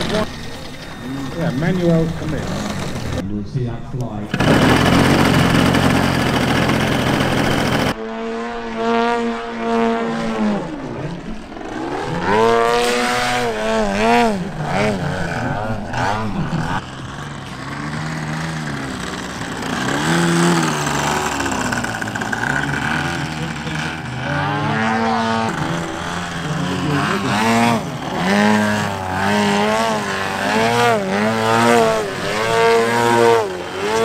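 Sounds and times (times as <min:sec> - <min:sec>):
model plane propeller engine: 0:00.0 - 0:03.3, 0:04.3 - 0:08.0, 0:10.3 - 0:34.0.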